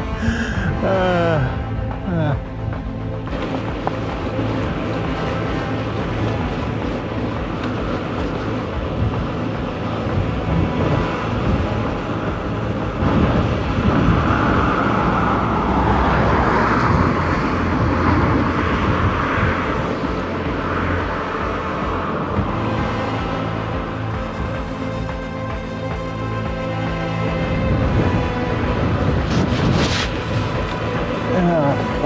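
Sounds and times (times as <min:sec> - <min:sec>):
wind on microphone: 0:03.3 - 0:25.1, 0:26.9 - 0:32.0.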